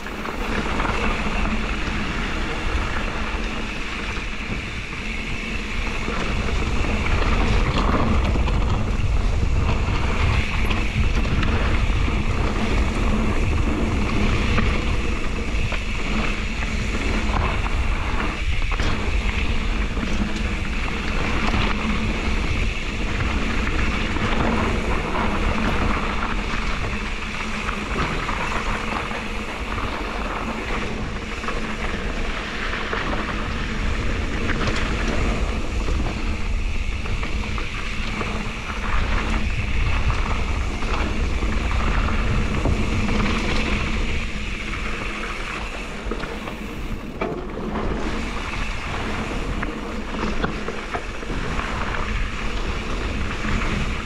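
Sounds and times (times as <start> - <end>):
bike tyres rumbling on rough ground: 0.0 - 54.0
wind noise on microphone: 0.0 - 54.0.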